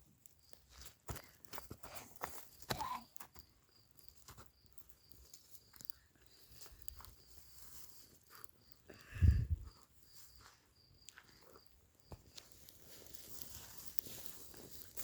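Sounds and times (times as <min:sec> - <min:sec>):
crackles and rustles: 0:00.0 - 0:15.0
cricket chirping: 0:00.0 - 0:15.0.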